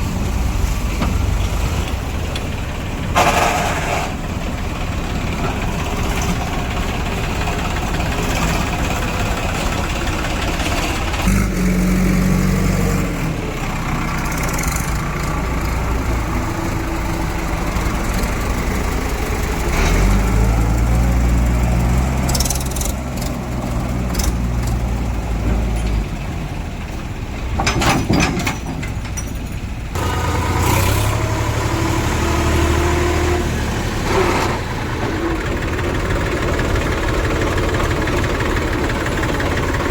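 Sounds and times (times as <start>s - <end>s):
heavy diesel engines working: 0.0s - 39.9s.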